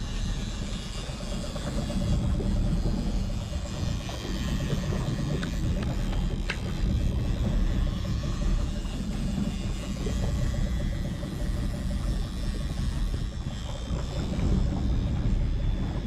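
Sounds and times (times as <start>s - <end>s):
boat motor rumble: 0.0s - 16.0s
faint hum: 0.0s - 16.0s
wind buffeting microphone: 0.3s - 16.0s.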